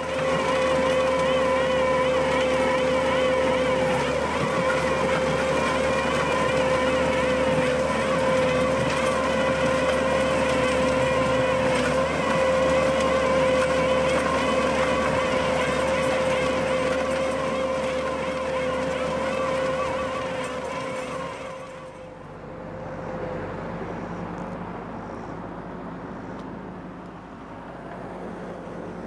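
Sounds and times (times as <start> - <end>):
planer whine: 0.0 - 29.0
skid steer engine at high revs: 0.0 - 29.0.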